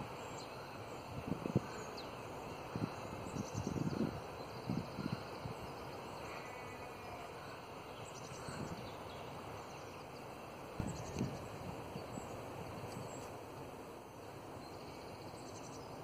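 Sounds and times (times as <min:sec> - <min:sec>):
small birds chirping: 0:00.0 - 0:13.4
background hiss: 0:00.0 - 0:16.0.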